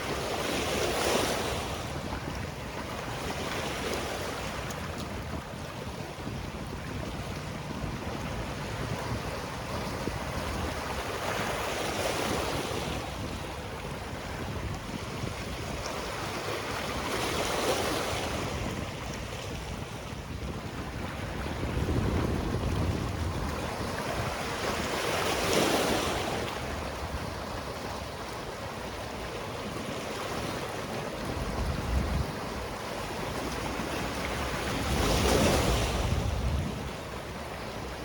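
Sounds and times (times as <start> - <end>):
sea waves breaking on shore: 0.0 - 38.0
wind on microphone: 0.0 - 38.0.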